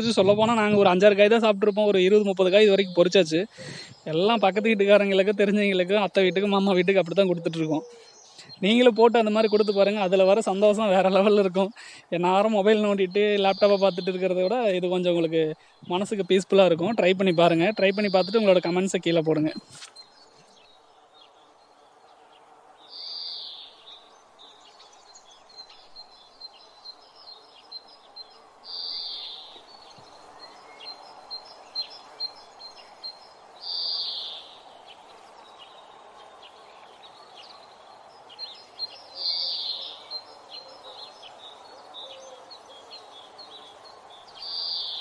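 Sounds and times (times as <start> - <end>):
faint background noise: 0.0 - 45.0.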